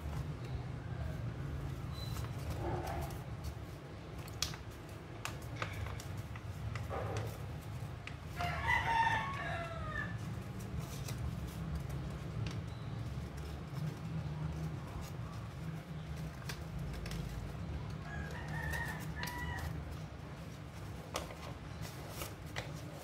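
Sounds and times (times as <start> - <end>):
paper creasing and folding: 0.0 - 23.0.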